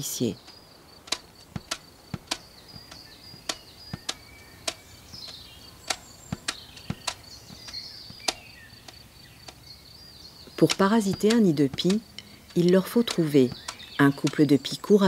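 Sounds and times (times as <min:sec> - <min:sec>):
faint bird chirps: 0:00.0 - 0:15.0
insect trilling: 0:00.0 - 0:15.0
sharp irregular clicks: 0:00.4 - 0:09.6, 0:10.5 - 0:14.9.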